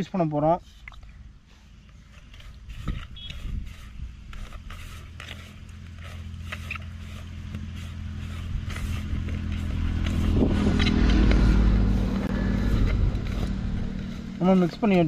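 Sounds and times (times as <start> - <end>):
vehicle engine hum: 0.8 - 15.0
fingers scraping metal pot: 1.8 - 15.0.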